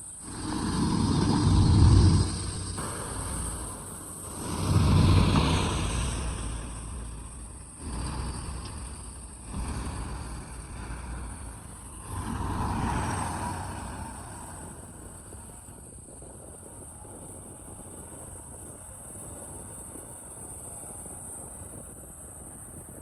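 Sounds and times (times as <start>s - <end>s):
heavy diesel engine under load: 0.1s - 19.1s.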